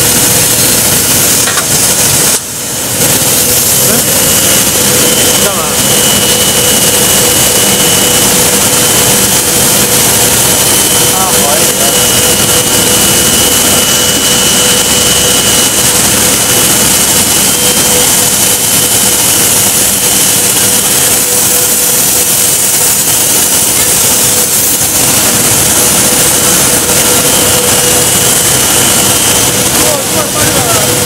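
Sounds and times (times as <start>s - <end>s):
constant machine whine: 0.0s - 31.0s
industrial mixer running: 0.0s - 31.0s.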